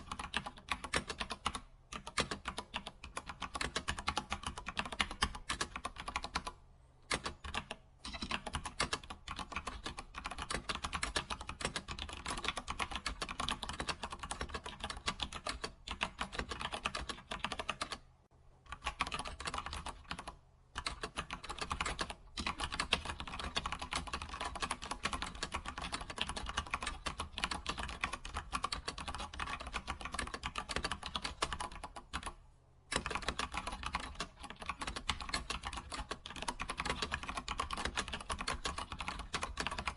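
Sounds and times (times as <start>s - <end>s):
fast keyboard typing: 0.0s - 18.1s, 18.7s - 39.9s.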